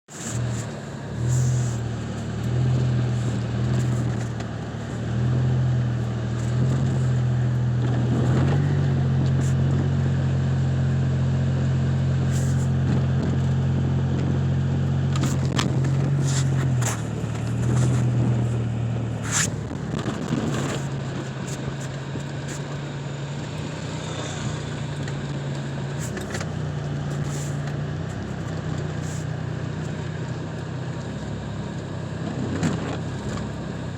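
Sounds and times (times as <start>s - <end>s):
car engine drone: 0.0s - 33.9s
road and tyre noise: 0.0s - 33.9s.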